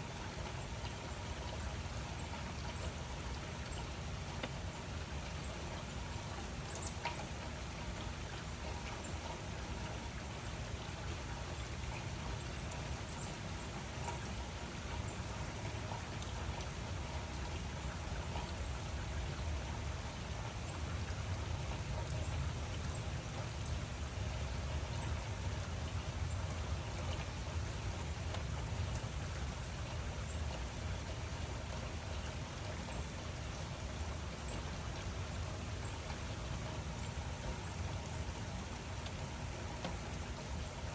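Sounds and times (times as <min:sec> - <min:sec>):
constant low rumble: 0:00.0 - 0:40.9
steady rain: 0:00.0 - 0:40.9.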